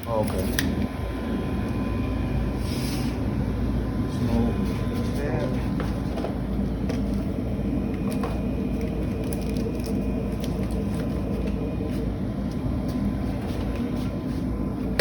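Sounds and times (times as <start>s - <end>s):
gas furnace rumbling: 0.0s - 15.0s.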